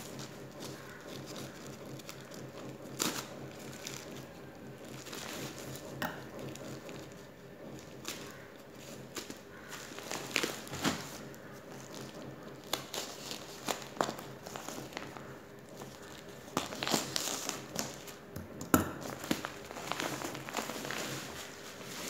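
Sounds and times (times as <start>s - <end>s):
plastic bag crinkling: 0.0s - 18.2s, 19.0s - 22.0s.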